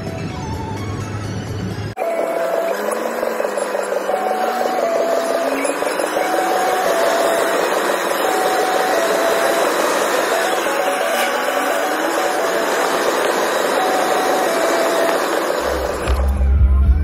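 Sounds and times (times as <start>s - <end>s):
car engine and tyre noise: 0.4s - 16.7s.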